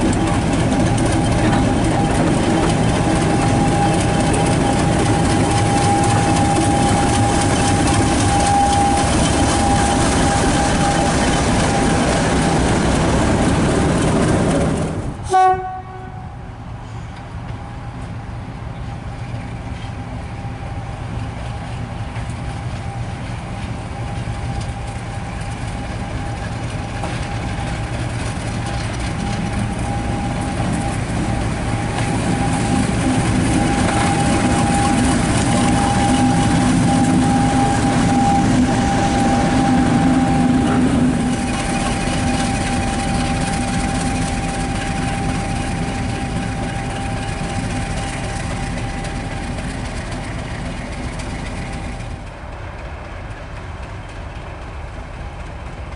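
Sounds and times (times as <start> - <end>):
diesel locomotive engine: 0.0 - 55.9.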